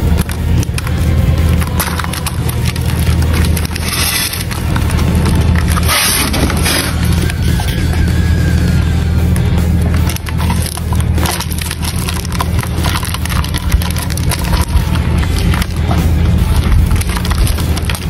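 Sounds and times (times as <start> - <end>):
beetle shells knocking: 0.0 - 8.0, 9.8 - 18.0
steady low hum: 0.0 - 18.0.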